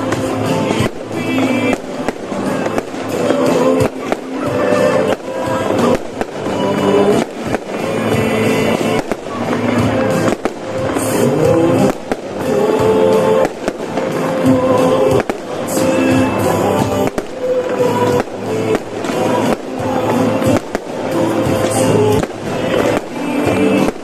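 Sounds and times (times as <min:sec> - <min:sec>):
fireworks bangs: 0:00.0 - 0:24.0
loud music from loudspeakers: 0:00.0 - 0:24.0.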